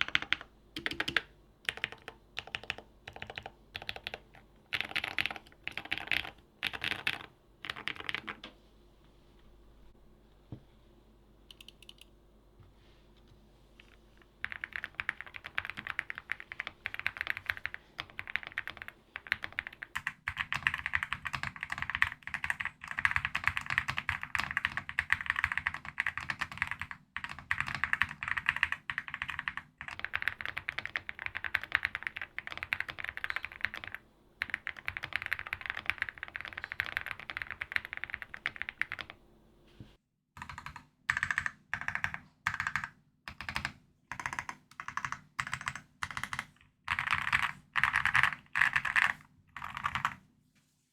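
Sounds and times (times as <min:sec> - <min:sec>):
mechanical keyboard typing: 0:00.0 - 0:08.5, 0:11.5 - 0:12.1, 0:13.8 - 0:39.2, 0:40.4 - 0:50.2.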